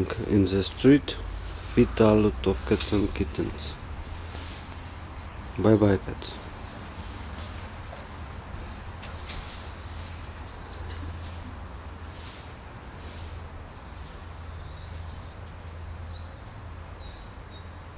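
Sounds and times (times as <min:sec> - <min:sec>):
small birds chirping: 0:00.0 - 0:17.9
steady low hum: 0:00.0 - 0:17.9.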